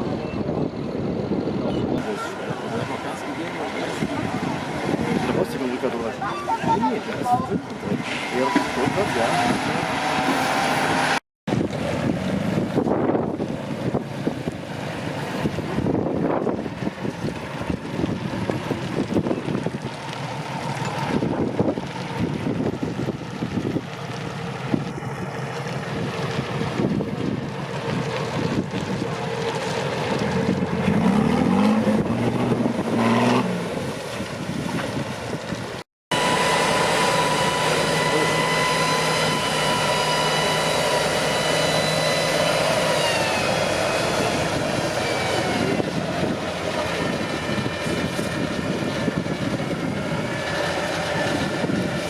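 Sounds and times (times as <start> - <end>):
wind on microphone: 0.0 - 36.5, 37.1 - 52.0
truck engine revving: 0.0 - 52.0.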